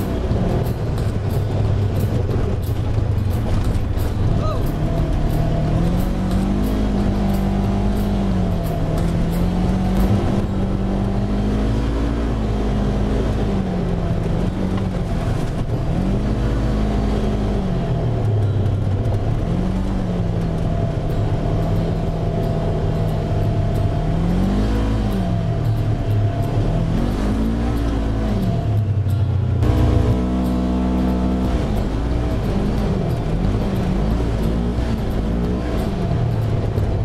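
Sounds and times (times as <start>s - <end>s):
off-road vehicle engine revving: 0.0s - 37.0s
tyres on wet dirt track: 0.0s - 37.0s.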